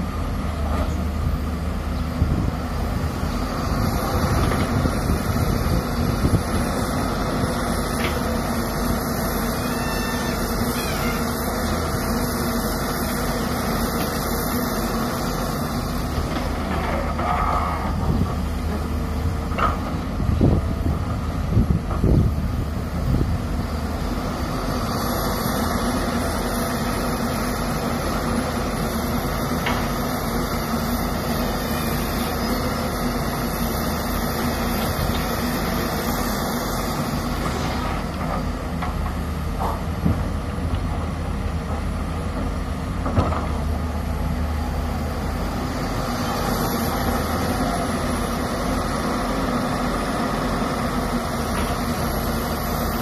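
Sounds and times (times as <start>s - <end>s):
dump truck engine running: 0.0s - 53.0s
excavator diesel engine running: 0.0s - 53.0s.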